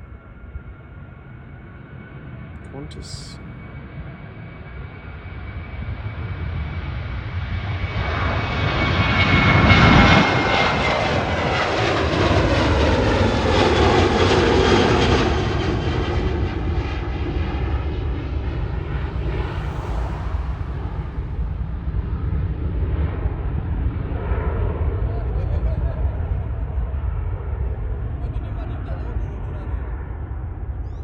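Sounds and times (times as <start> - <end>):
airliner engines at take-off power: 0.0 - 31.0.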